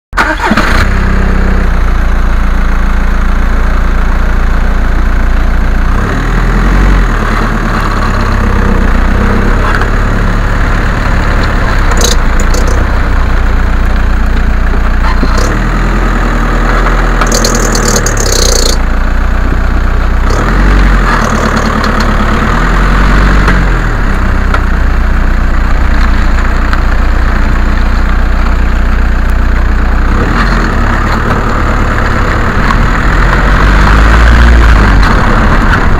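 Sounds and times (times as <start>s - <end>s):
road noise: 0.1s - 35.9s
car engine accelerating: 0.2s - 35.9s.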